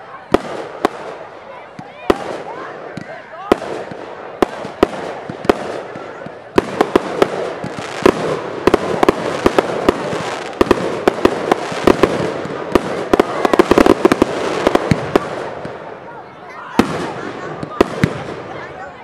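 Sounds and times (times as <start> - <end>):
fireworks bangs: 0.2 - 16.1, 16.7 - 18.8.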